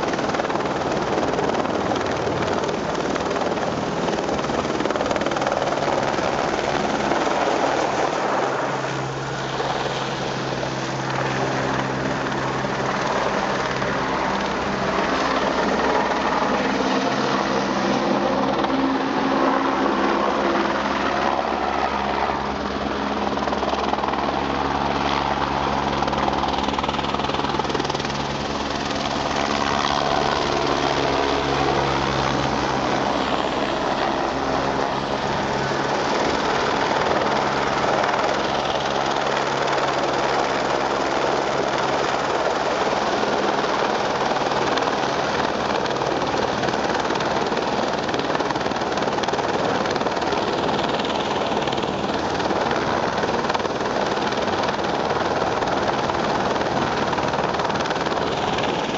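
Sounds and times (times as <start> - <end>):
helicopter rotor and turbine: 0.0 - 58.9.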